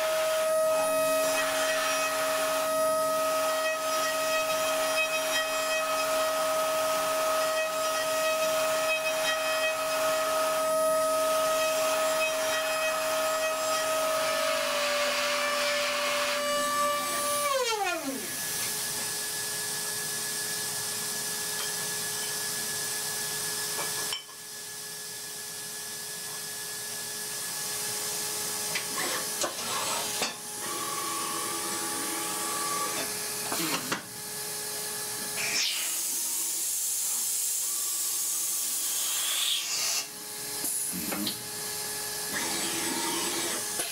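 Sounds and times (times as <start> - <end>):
machine hum and hiss: 0.0 - 43.9.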